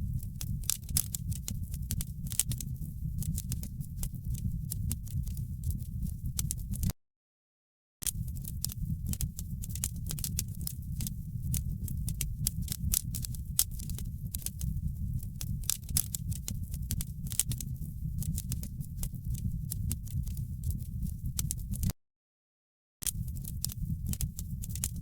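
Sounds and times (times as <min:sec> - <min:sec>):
low rumble of burning logs: 0:00.0 - 0:06.9, 0:08.1 - 0:21.9, 0:23.1 - 0:25.0
wood fire crackling: 0:00.0 - 0:06.9, 0:08.1 - 0:21.9, 0:23.1 - 0:25.0.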